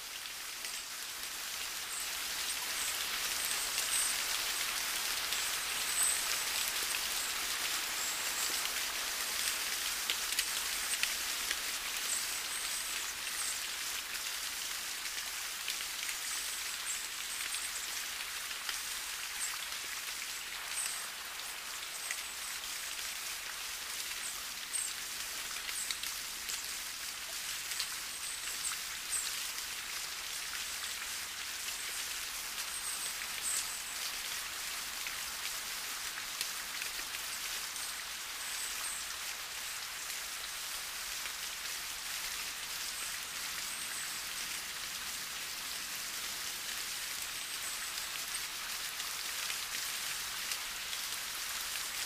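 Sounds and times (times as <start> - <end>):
rain pattering on leaves: 0.0 - 52.0.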